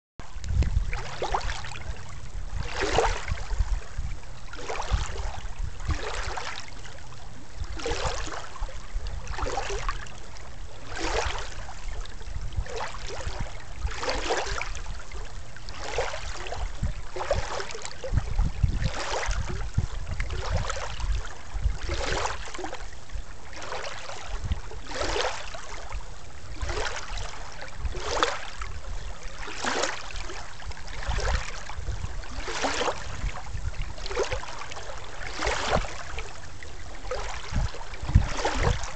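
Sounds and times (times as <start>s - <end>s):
water lapping at shoreline: 0.2s - 38.9s
wind rumble on microphone: 0.2s - 38.9s.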